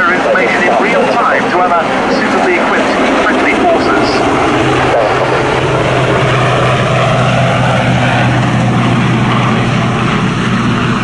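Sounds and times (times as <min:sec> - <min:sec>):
helicopter rotors and turbine engines: 0:00.0 - 0:11.0.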